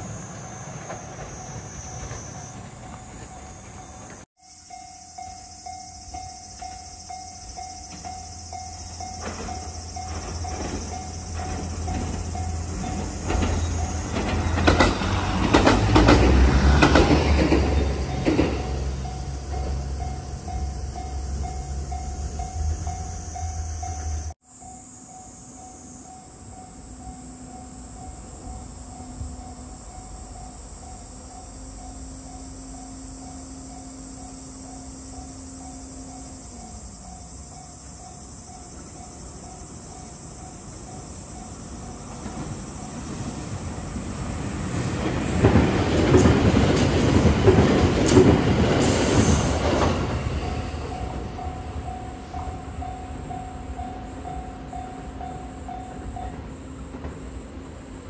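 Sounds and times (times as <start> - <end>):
train passing with wheel clatter: 0.0 - 58.0.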